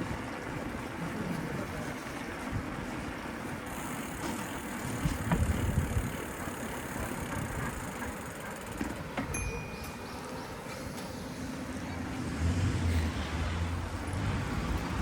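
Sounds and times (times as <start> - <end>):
city street traffic noise: 0.0 - 15.0.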